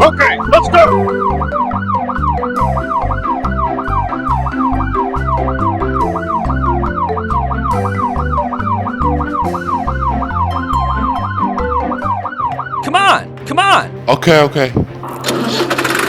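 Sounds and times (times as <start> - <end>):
fast yelping siren: 0.0 - 13.2
background music with pulsing bass: 0.0 - 15.2.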